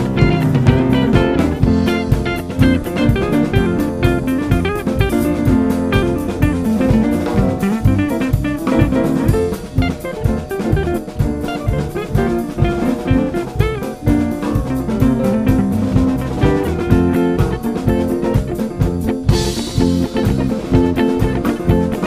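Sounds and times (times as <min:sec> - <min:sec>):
drum kit beat: 0:00.0 - 0:22.0
electric bass: 0:00.0 - 0:22.0
electric guitar: 0:00.0 - 0:22.0.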